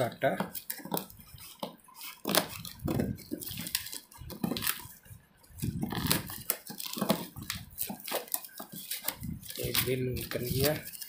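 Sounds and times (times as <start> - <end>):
knife cutting cardboard box: 0.4 - 4.9, 5.6 - 11.0.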